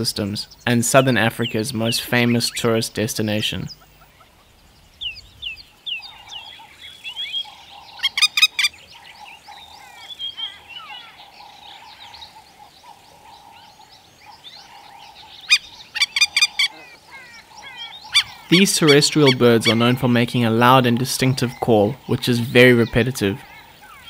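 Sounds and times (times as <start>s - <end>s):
background bird chorus: 0.0s - 24.0s
lapwing sharp calls: 0.0s - 24.0s.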